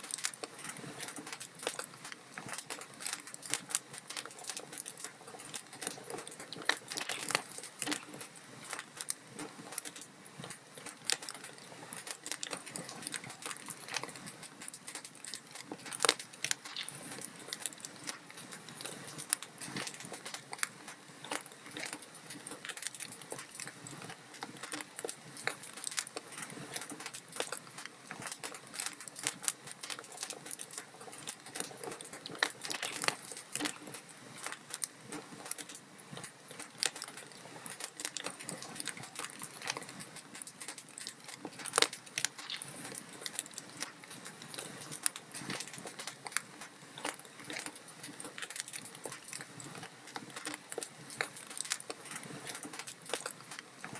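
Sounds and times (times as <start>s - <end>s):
log fire crackling: 0.0s - 53.9s.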